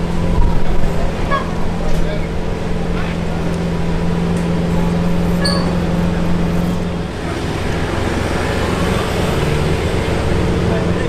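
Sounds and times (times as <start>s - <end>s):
car engine idling: 0.0s - 11.0s
street traffic: 0.0s - 11.0s.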